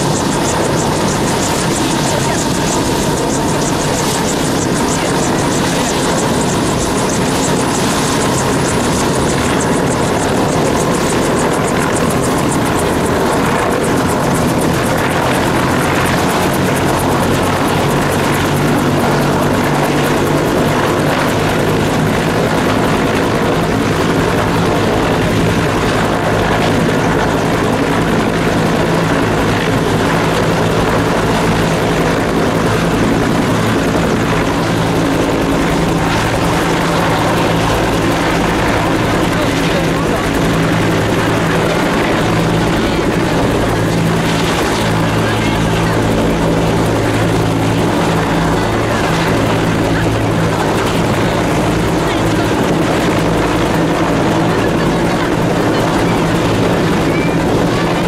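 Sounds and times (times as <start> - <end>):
helicopter rotors beating: 0.0 - 58.0
helicopter turbine whine: 0.0 - 58.0.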